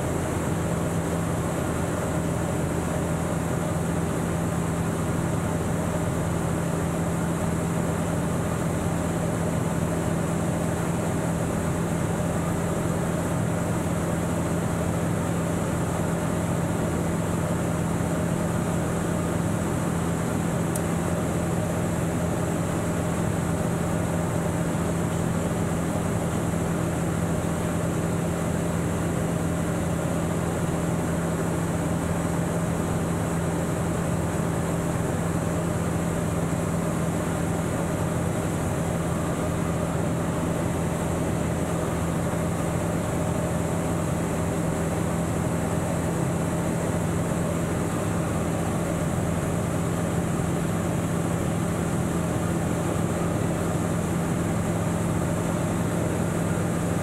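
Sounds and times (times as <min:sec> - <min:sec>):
aircraft engine low hum: 0:00.0 - 0:57.0.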